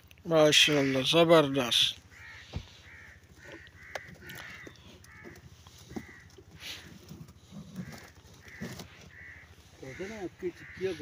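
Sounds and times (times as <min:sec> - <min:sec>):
crows cawing: 0:00.4 - 0:11.0.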